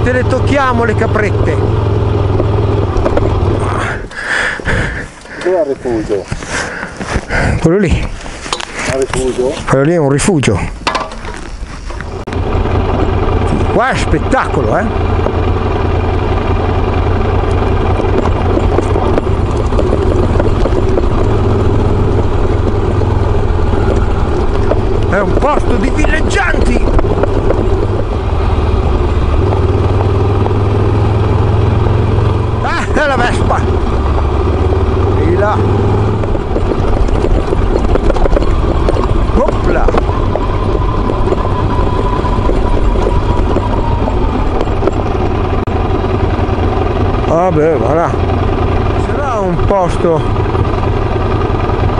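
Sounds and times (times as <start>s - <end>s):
motorcycle engine running: 0.0s - 51.9s
tyres on gravel: 0.0s - 51.9s.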